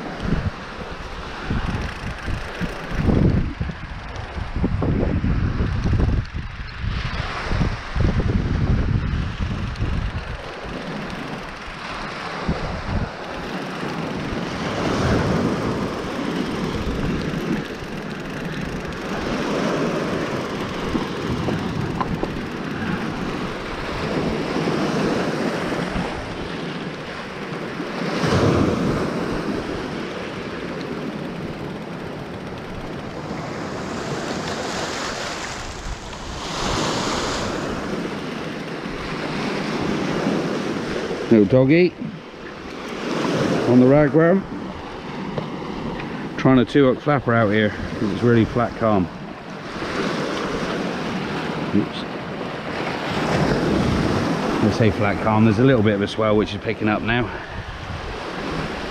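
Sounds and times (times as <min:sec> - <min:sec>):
sea waves washing on shore: 0:00.0 - 0:58.9
wind buffeting microphone: 0:00.0 - 0:58.9.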